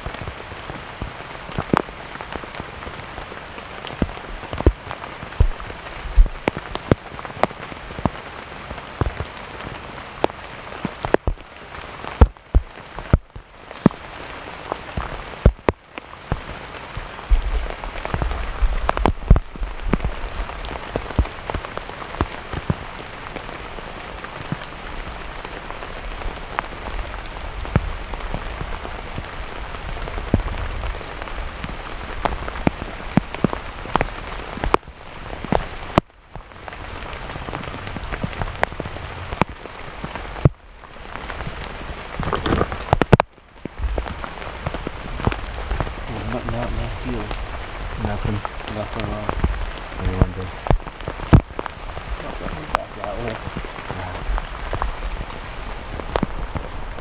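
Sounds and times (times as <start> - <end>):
heavy rain falling: 0.0 - 57.0
raindrops tapping near microphone: 0.0 - 57.0.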